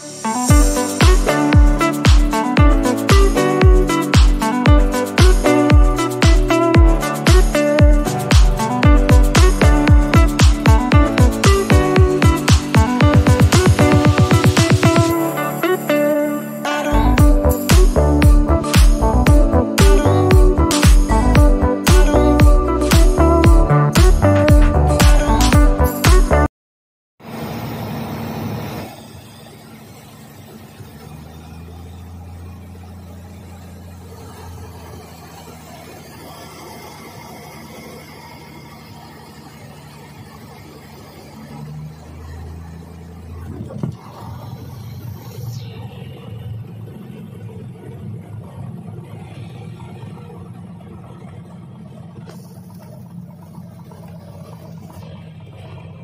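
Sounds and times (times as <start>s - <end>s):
propeller plane engine drone: 0.0s - 26.2s, 27.2s - 56.0s.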